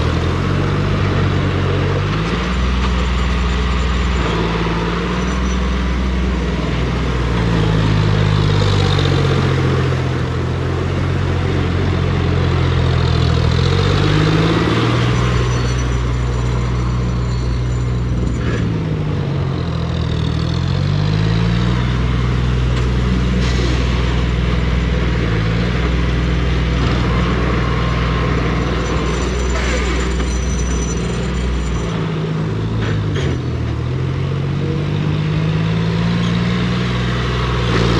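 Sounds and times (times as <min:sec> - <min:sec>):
tractor engine revving: 0:00.0 - 0:37.9.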